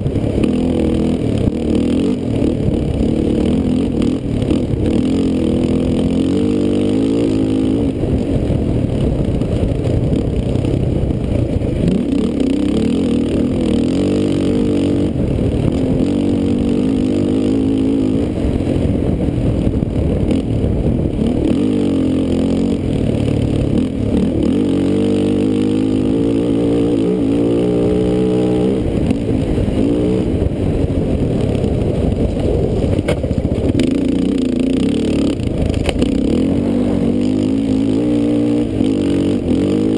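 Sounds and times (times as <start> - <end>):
quad engine running hard: 0.0 - 39.9.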